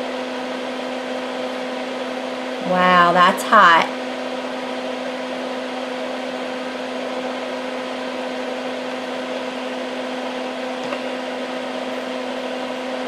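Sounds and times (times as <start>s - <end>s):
fan whirring hum: 0.0s - 13.0s.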